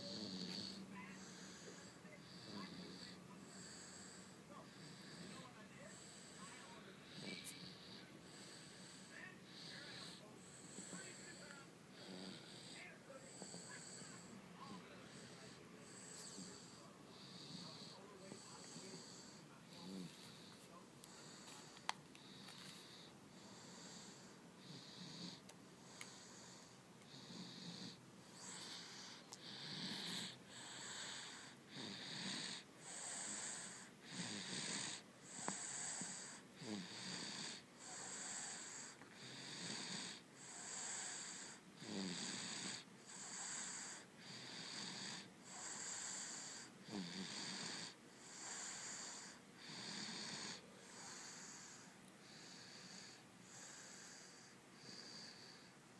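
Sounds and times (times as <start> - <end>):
baby snoring softly: 0.0 - 55.9.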